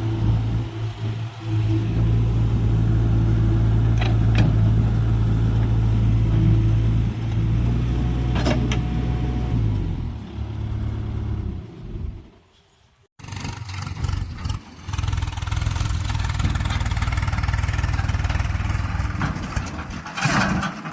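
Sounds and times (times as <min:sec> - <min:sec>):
diesel engine running: 0:00.0 - 0:12.5, 0:13.2 - 0:20.9.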